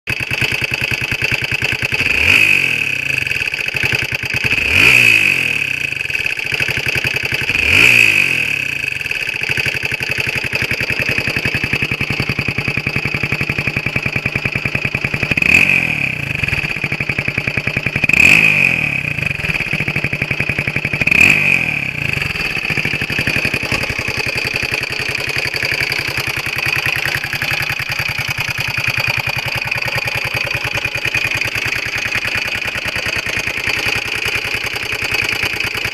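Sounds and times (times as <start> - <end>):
motorcycle engine revving: 0.1 - 35.9.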